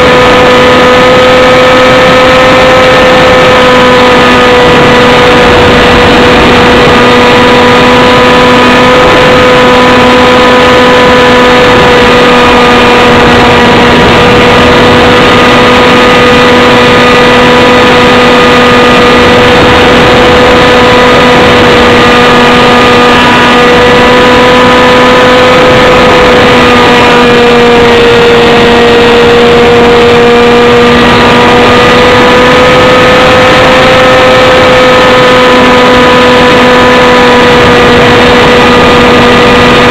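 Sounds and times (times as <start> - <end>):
model plane motor whining: 0.0 - 39.9
wind rush: 0.0 - 39.9.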